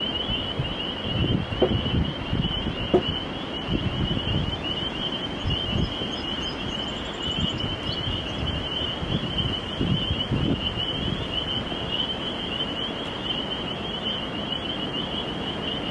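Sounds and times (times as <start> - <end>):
wind gusting against microphone: 0.0 - 15.9.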